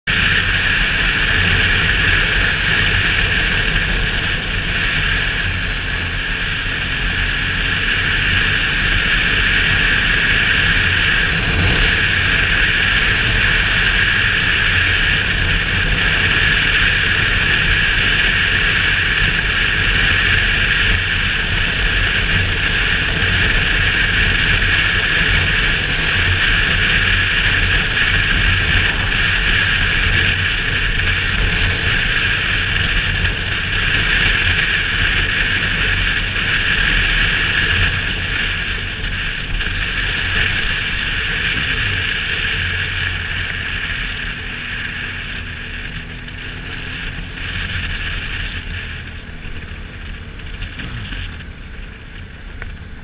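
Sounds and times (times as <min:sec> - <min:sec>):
motorcycle engine drone: 0:00.0 - 0:53.0
wind rushing over microphone: 0:00.1 - 0:53.0.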